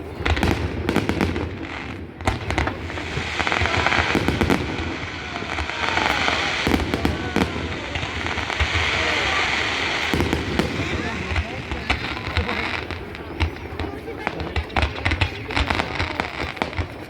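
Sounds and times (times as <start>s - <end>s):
fireworks bangs: 0.0s - 17.0s
fireworks hissing: 0.0s - 17.0s.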